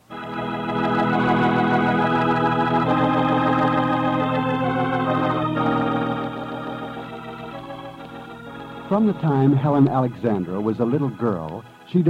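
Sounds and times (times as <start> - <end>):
organ playing sustained chords: 0.0 - 12.0.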